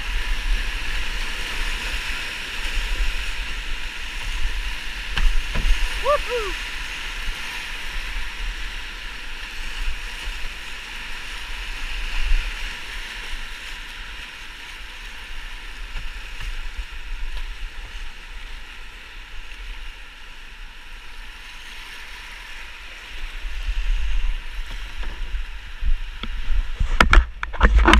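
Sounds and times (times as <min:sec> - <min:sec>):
whitewater rushing around canoe: 0:00.0 - 0:27.9.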